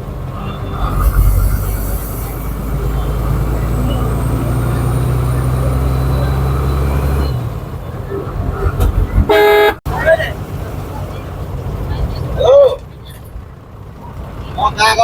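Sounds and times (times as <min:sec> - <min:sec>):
bus engine droning: 0:00.0 - 0:15.0
road noise: 0:00.0 - 0:15.0.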